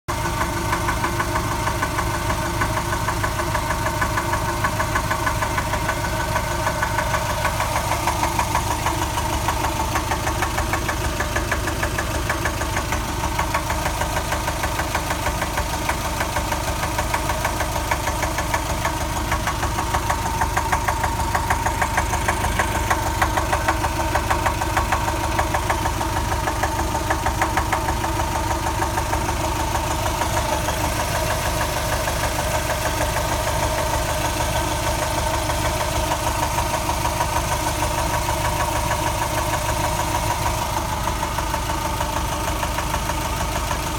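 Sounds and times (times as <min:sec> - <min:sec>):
engine idling with rapid knock: 0:00.1 - 0:43.9.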